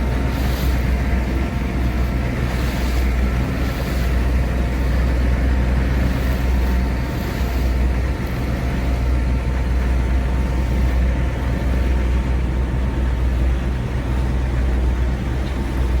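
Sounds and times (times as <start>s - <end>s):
boat engine running: 0.0s - 16.0s
water rushing: 0.0s - 16.0s.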